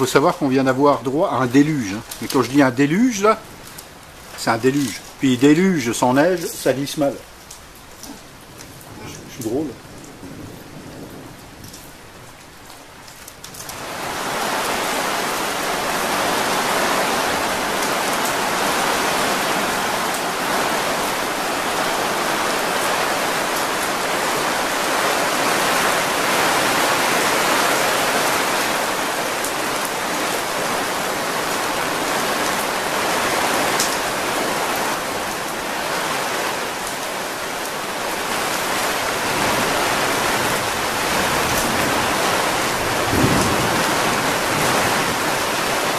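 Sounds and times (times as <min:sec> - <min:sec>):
heavy rain on canvas: 0:00.0 - 0:45.9.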